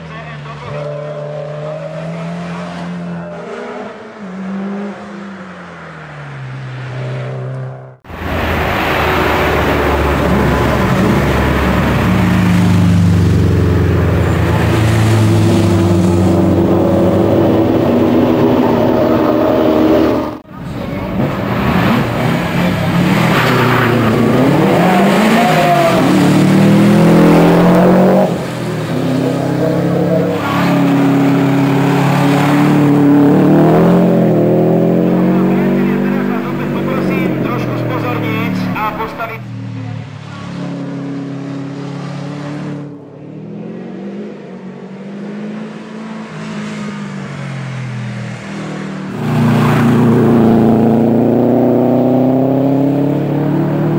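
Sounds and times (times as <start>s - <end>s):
rally car engines accelerating: 0.0s - 53.9s.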